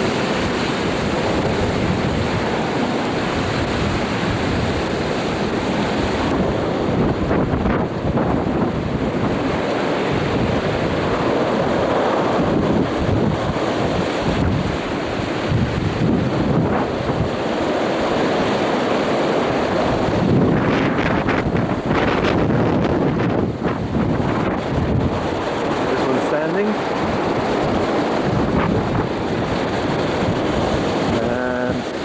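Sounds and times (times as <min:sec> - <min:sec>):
strong wind on microphone: 0:00.0 - 0:32.0.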